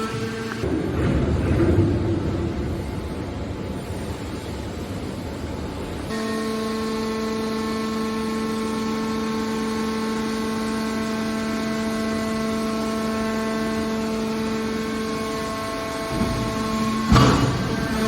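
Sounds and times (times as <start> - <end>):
hydraulic power unit humming: 0.0 - 18.0.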